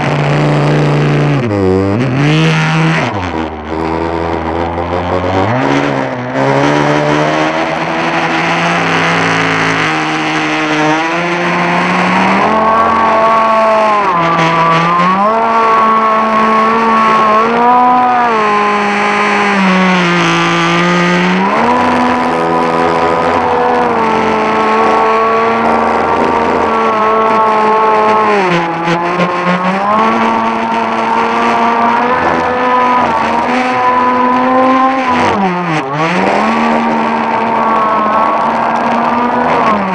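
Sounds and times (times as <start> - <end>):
rc boat motor whining: 0.0 - 39.9.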